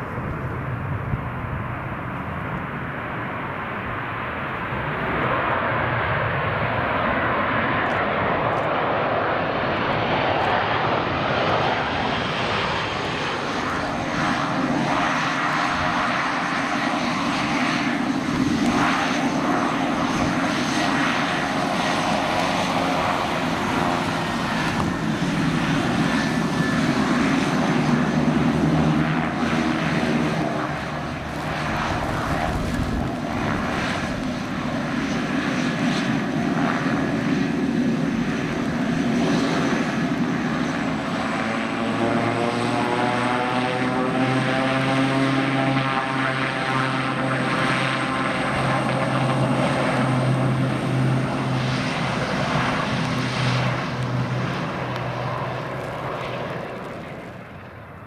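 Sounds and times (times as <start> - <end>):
jet airliner engine noise: 0.0 - 58.0
turboprop engines running: 0.0 - 58.0.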